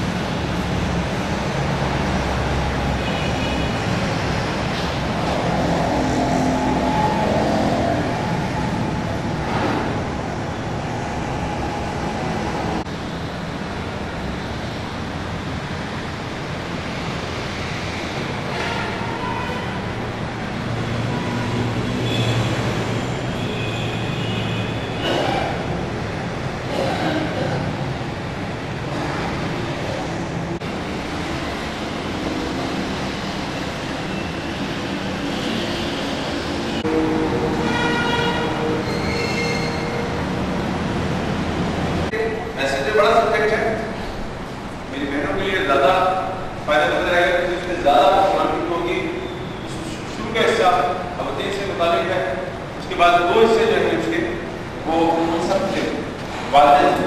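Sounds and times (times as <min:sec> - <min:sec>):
distant traffic noise: 0:00.0 - 0:57.0.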